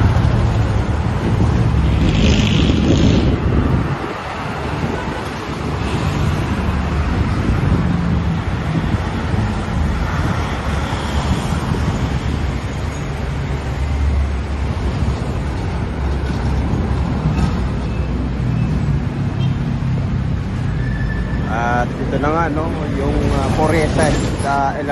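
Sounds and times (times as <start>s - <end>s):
wind rumbling on microphone: 0.0s - 20.7s
road traffic: 0.0s - 24.9s.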